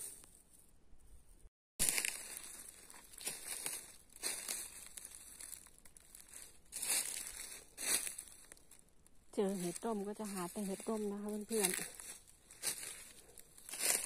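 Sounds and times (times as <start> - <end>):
footsteps crunching dry leaves: 1.8 - 14.0.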